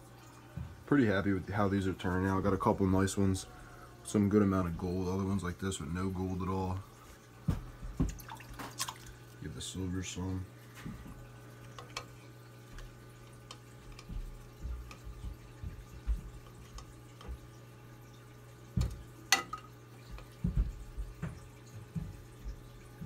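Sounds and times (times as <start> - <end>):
low hum of pumps: 0.0 - 23.0
water trickling and dripping: 0.0 - 23.0.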